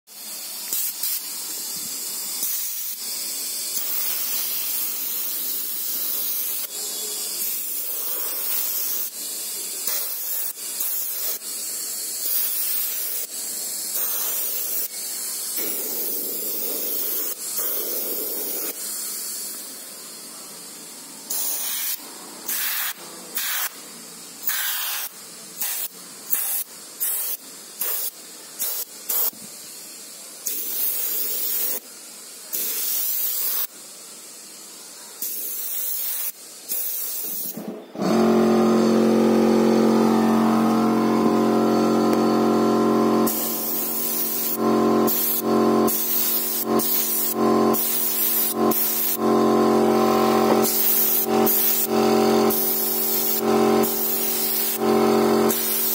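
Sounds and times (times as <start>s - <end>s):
airbrush spraying paint: 0.1s - 55.9s.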